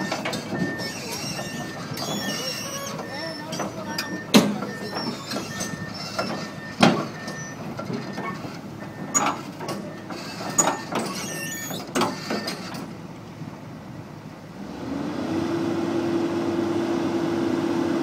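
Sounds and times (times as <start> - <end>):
diesel excavator engine running: 0.0 - 18.0.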